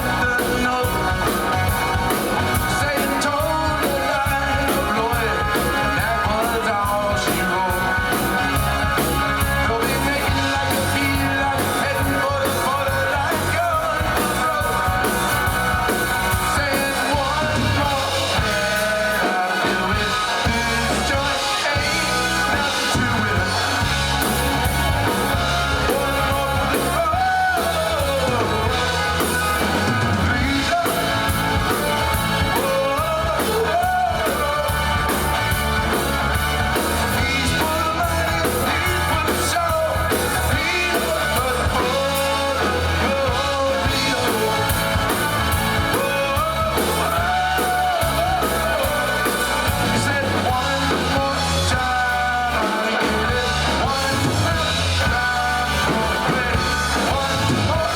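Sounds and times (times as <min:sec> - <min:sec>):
rock and roll song on radio: 0:00.0 - 0:57.9.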